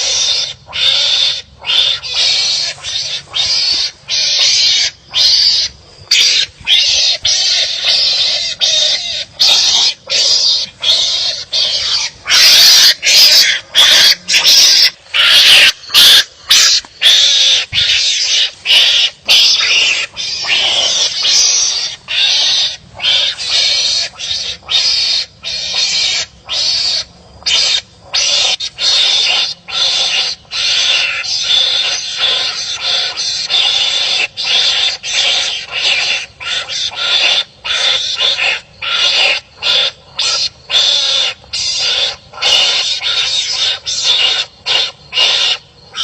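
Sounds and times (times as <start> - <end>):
harsh rasping animal calls: 0.0 - 46.0.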